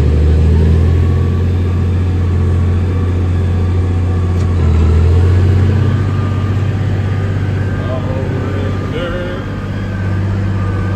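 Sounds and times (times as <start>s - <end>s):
tractor diesel engine under load: 0.0s - 10.9s.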